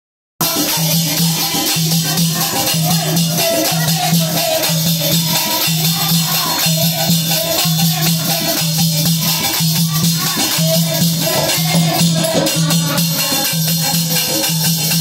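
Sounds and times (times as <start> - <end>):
hand drum beat: 0.4 - 15.0
jingling percussion: 0.4 - 15.0
women singing devotional song: 0.4 - 15.0.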